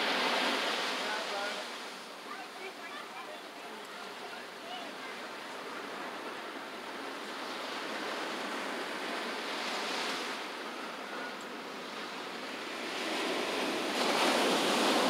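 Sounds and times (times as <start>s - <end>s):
ocean surf breaking on beach: 0.0s - 15.0s.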